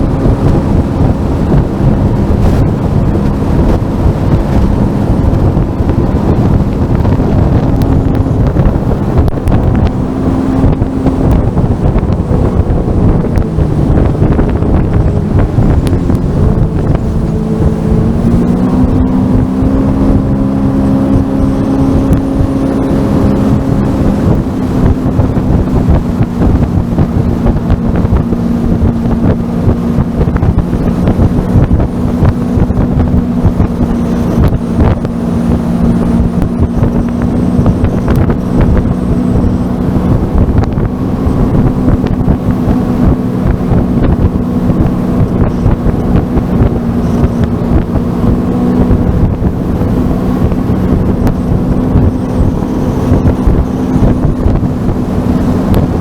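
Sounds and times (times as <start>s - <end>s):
jetski engine running: 0.0s - 56.0s
water rushing past: 0.0s - 56.0s
wind buffeting microphone: 0.0s - 56.0s.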